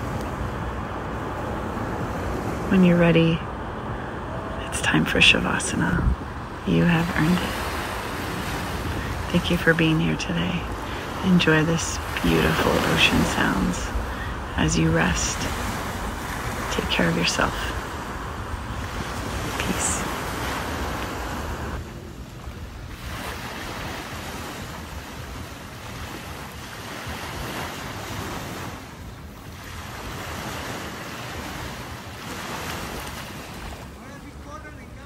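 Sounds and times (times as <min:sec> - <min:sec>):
wind on microphone: 0:00.0 - 0:34.0
small waves on sandy beach: 0:00.0 - 0:35.0.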